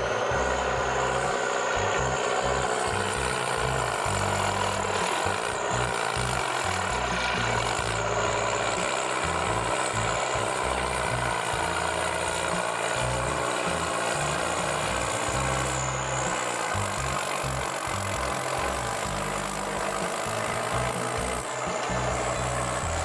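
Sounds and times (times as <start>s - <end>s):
heavy machine engine running: 0.0s - 23.0s.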